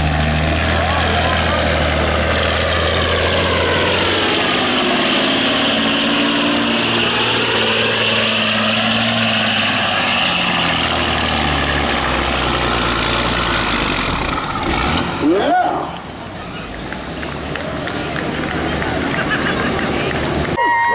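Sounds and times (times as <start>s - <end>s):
diesel truck engine under load: 0.0s - 20.6s.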